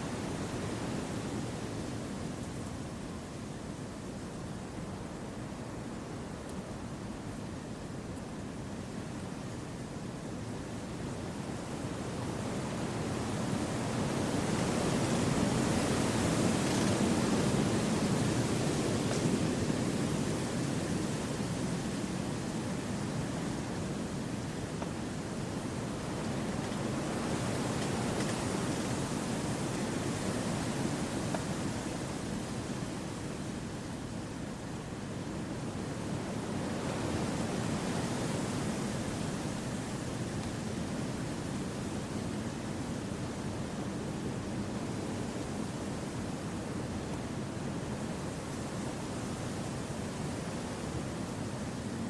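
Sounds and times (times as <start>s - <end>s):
wind through forest trees: 0.0s - 52.0s.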